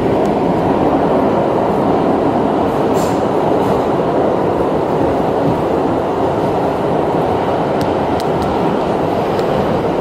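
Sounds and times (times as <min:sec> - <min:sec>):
subway train wheels rumbling: 0:00.0 - 0:10.0.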